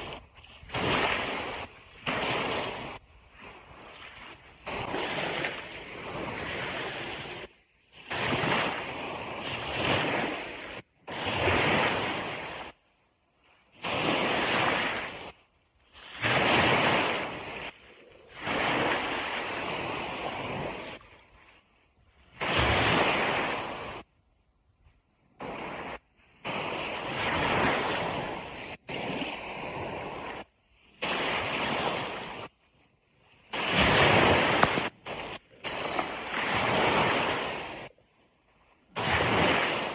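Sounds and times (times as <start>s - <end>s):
ocean waves washing in: 0.0s - 24.1s, 25.2s - 39.9s.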